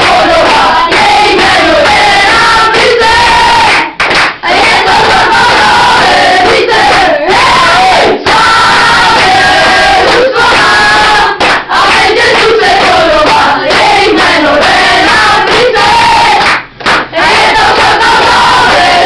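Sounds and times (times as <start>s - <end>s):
hands clapping: 0.0s - 7.1s, 8.0s - 19.0s.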